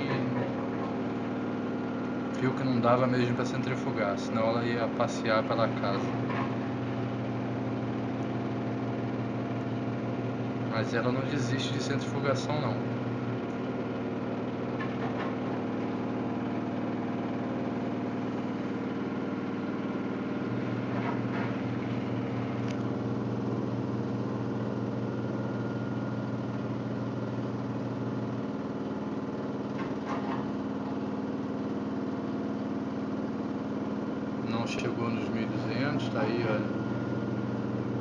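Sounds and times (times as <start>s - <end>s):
washing machine spinning: 0.0s - 38.0s.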